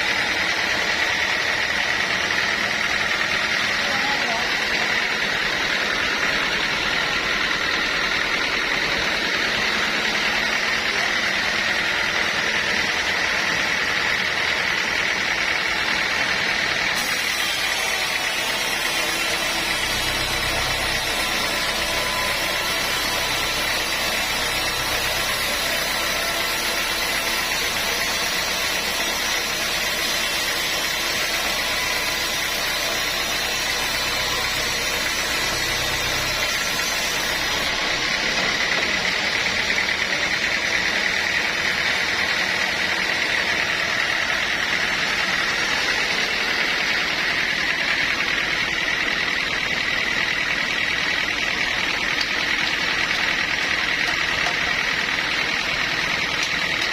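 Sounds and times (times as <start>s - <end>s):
sawmill machinery drone: 0.0s - 56.9s.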